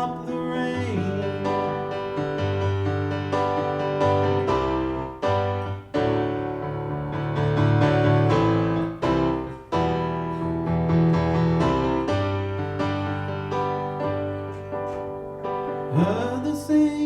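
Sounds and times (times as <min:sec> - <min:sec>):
keyboard chords with bass line: 0:00.0 - 0:17.0.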